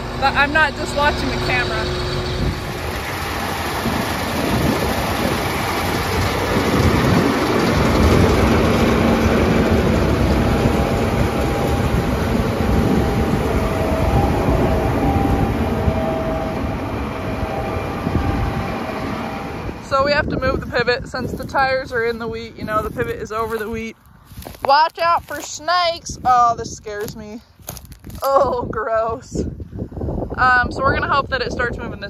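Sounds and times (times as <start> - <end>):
combine harvester rumbling: 0.0 - 32.0.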